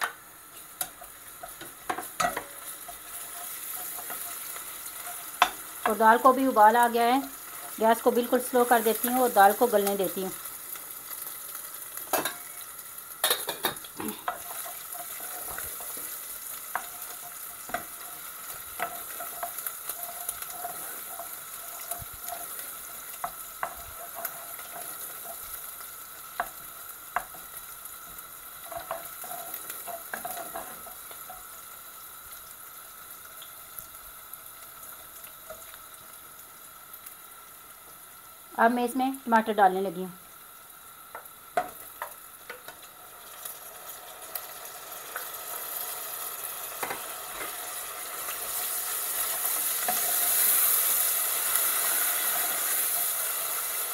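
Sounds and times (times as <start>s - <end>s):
onions sizzling in hot oil: 0.0s - 53.9s.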